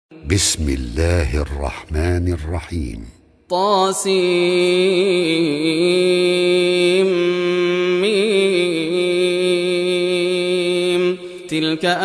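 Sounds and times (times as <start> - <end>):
man chanting melodic recitation: 0.1 - 12.0.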